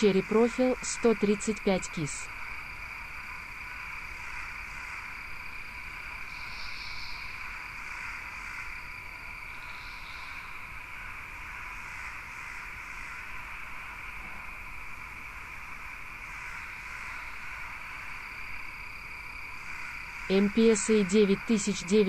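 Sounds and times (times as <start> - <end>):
frogs croaking: 0.0 - 22.0
insects trilling: 0.0 - 22.0.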